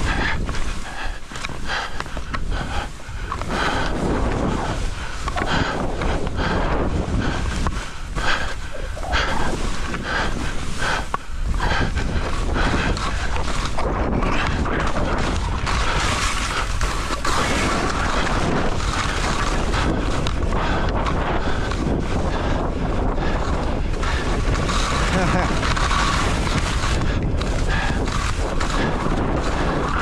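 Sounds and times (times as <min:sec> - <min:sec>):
skis scraping through snow: 0:00.0 - 0:30.0
wind buffeting microphone: 0:00.0 - 0:30.0.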